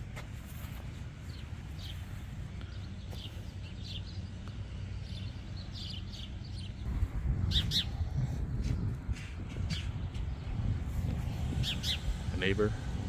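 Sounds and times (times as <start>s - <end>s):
low outdoor rumble: 0.0s - 13.0s
small birds chirping: 0.5s - 12.5s.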